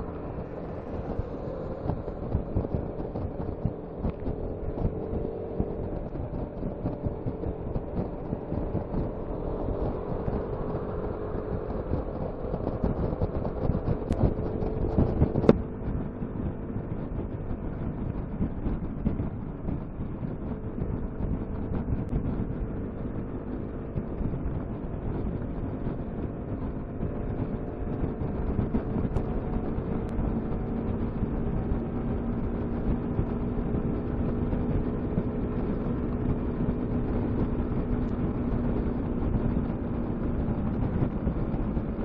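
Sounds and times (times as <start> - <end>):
scooter engine running: 0.0 - 42.0
wind noise on microphone: 0.0 - 42.0.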